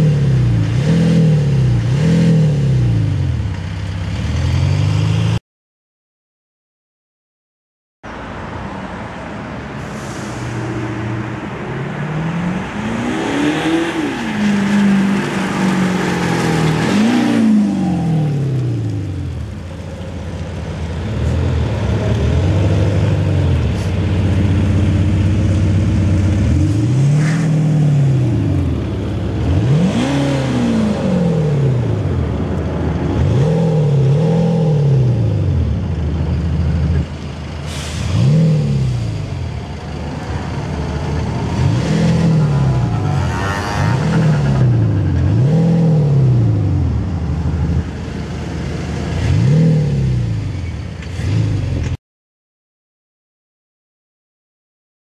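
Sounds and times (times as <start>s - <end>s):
car engine revving: 0.0s - 3.4s, 10.3s - 37.1s, 37.7s - 52.0s.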